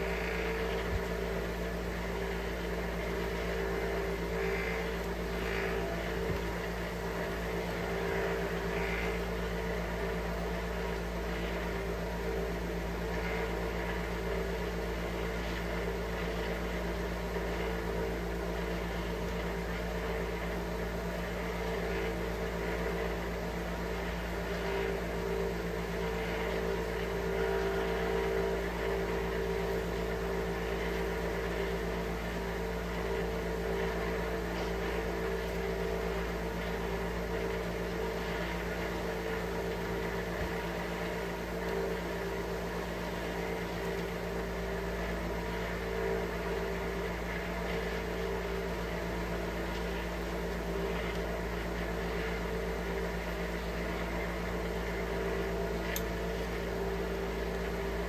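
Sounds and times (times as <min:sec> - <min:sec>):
motor humming: 0:00.0 - 0:58.0.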